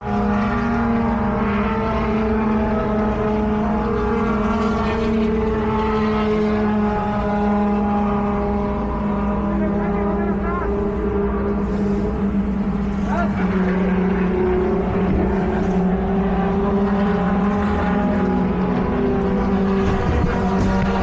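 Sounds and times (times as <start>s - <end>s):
race truck engine droning: 0.0s - 21.0s.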